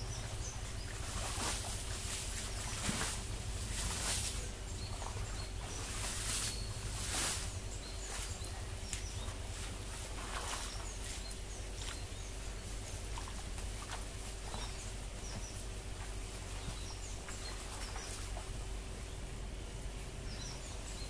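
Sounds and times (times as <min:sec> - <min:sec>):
low steady hum: 0:00.0 - 0:21.0
small birds chirping: 0:00.0 - 0:21.0.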